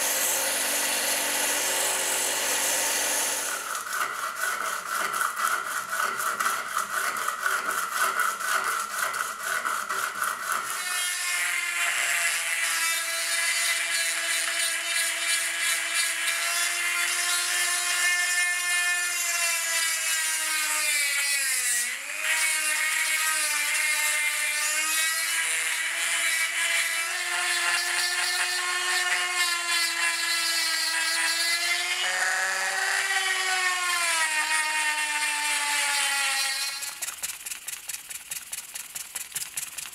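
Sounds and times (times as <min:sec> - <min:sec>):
rotary tool whining: 0:00.0 - 0:39.9
metal scratching on sandpaper: 0:01.4 - 0:19.2, 0:23.8 - 0:33.1, 0:34.4 - 0:39.9.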